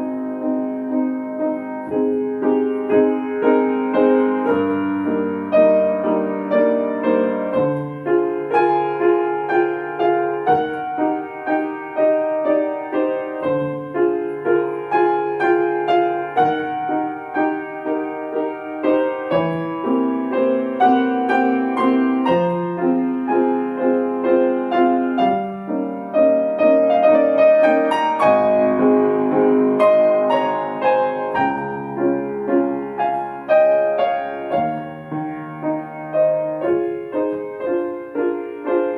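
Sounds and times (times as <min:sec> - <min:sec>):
solo piano classical piece: 0:00.0 - 0:38.9.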